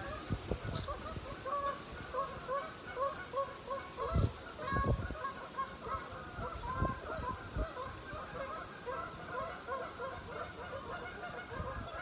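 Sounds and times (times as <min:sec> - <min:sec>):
geese honking: 0:00.0 - 0:12.0
wind rumbling on microphone: 0:00.0 - 0:12.0.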